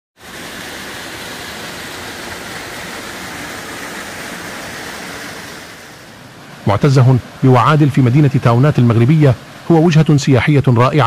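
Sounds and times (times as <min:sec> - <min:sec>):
water pouring down rocky cascade: 0:00.2 - 0:11.0.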